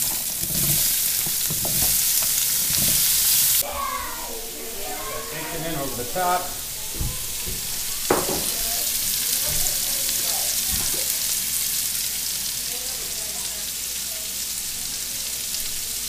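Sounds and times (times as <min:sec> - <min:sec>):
food sizzling in a skillet: 0:00.0 - 0:16.0.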